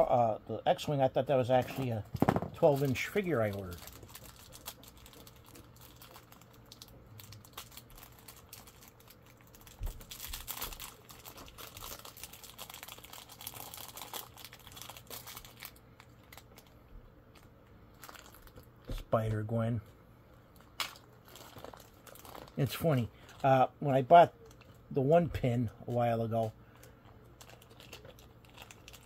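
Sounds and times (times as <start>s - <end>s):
packaging crinkling and rustling: 1.5s - 19.4s, 20.4s - 29.0s.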